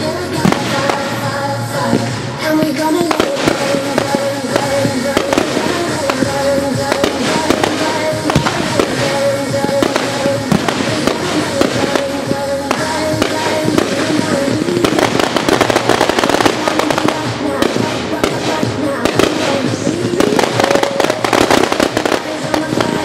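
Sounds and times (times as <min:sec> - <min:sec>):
firework bangs and pops: 0:00.0 - 0:23.0
music playing: 0:00.0 - 0:23.0.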